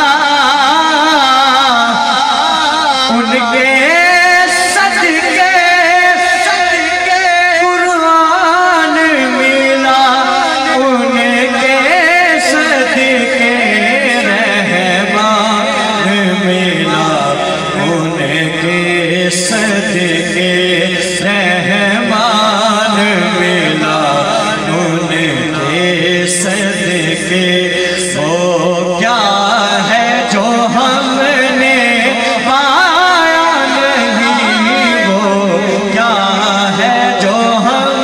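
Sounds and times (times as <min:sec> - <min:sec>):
man singing through microphone: 0:00.0 - 0:38.0.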